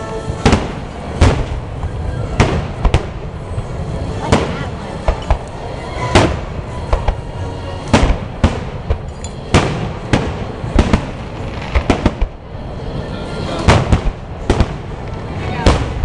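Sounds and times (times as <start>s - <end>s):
fireworks bursting with bangs: 0.0s - 16.0s.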